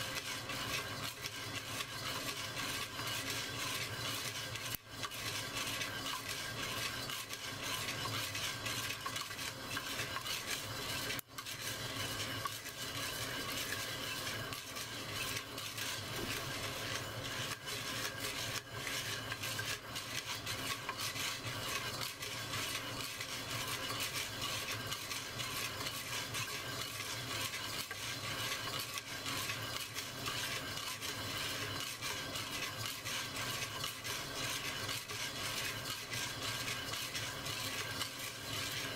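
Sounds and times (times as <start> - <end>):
coffee beans rattling in clay pot: 0.0 - 38.9.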